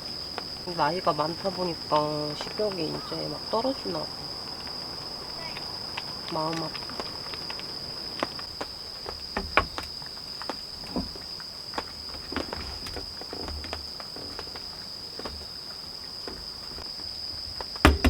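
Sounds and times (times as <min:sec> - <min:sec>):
high-pitched insect trill: 0:00.0 - 0:18.0
rain dripping on tent: 0:00.0 - 0:18.0.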